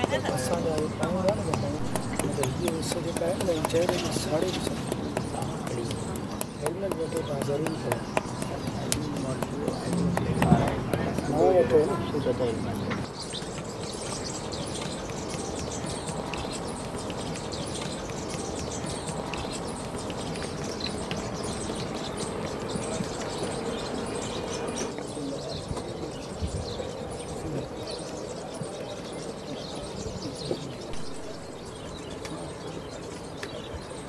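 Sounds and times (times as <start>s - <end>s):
small birds chirping: 0.0s - 34.0s
steady outdoor background noise: 0.0s - 34.0s.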